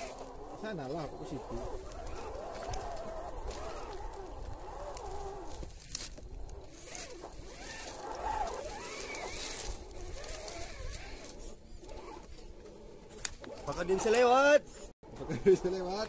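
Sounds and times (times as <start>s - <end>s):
electric motor and gears whining: 0.0s - 16.0s
tyres crunching over dry dirt: 0.0s - 16.0s.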